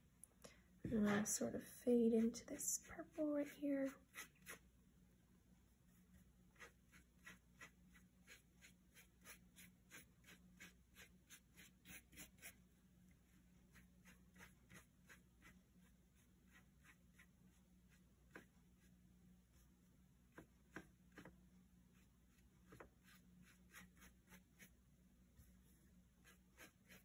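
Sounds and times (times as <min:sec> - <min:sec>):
paintbrush scratching on paper: 0:01.9 - 0:04.7, 0:05.7 - 0:12.6, 0:13.2 - 0:24.8, 0:25.4 - 0:27.0.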